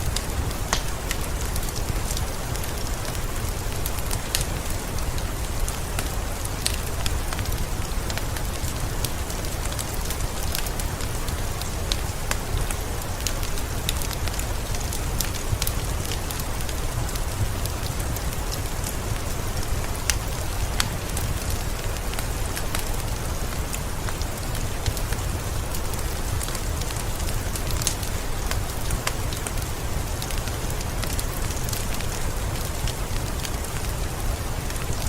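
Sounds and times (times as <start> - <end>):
fireplace crackling: 0.0 - 35.0
steady rain falling: 0.0 - 35.0.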